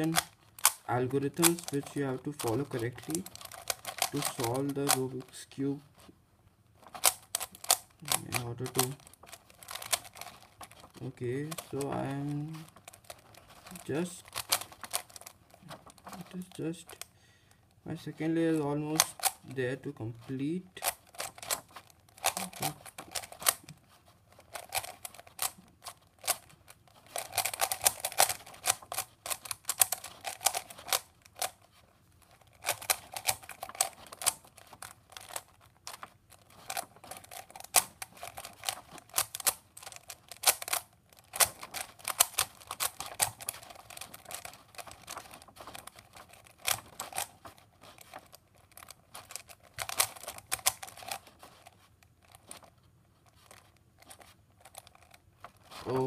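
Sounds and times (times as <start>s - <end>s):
puzzle cube plastic clicking: 0.0s - 6.1s, 6.8s - 17.1s, 17.7s - 56.0s.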